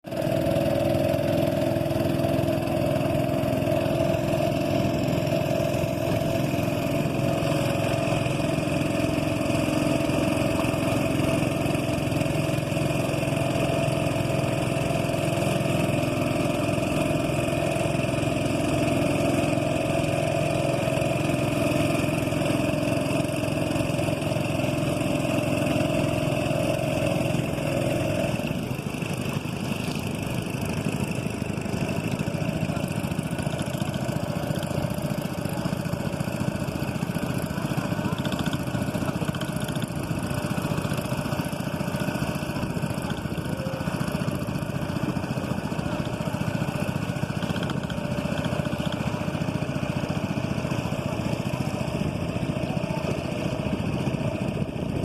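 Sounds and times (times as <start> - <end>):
boat engine droning: 0.1 - 55.0.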